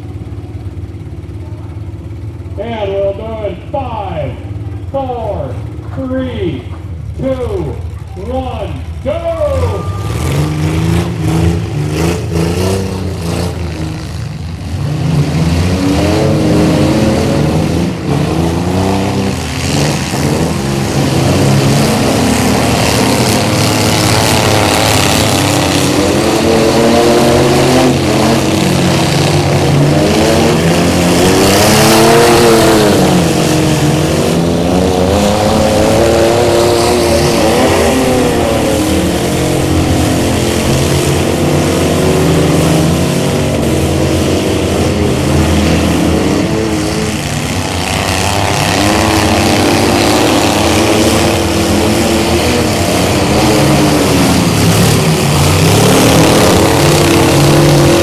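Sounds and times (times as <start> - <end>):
truck engines revving: 0.0 - 58.0.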